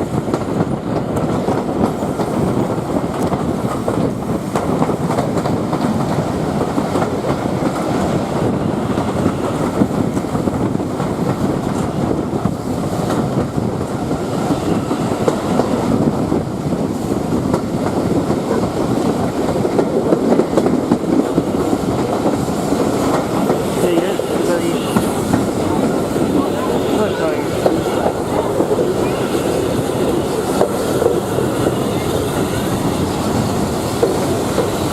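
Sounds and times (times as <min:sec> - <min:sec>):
clickety-clack over track joints: 0:00.0 - 0:34.9
train wheels rumbling on rails: 0:00.0 - 0:34.9.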